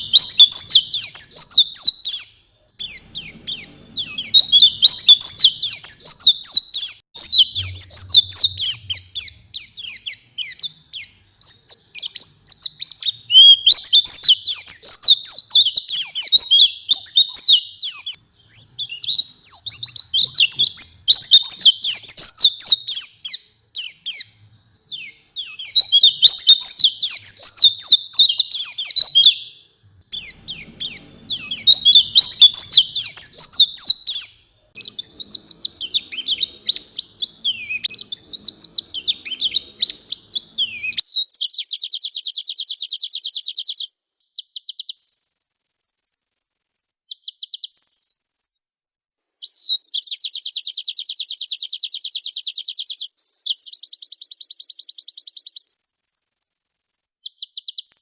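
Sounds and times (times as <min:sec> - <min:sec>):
bird twittering and trilling: 0:00.0 - 0:48.6, 0:49.4 - 0:58.0.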